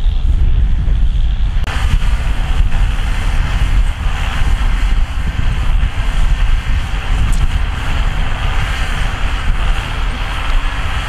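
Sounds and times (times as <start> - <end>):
tractor diesel engine rumble: 1.6 - 11.0
harrow hiss: 1.7 - 11.0.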